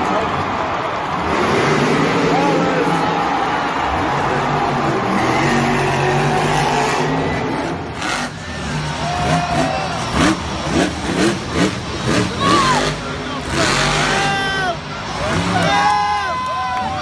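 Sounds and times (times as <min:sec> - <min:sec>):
monster truck engine at high revs: 0:00.0 - 0:17.0
monster truck engine revving: 0:00.1 - 0:17.0.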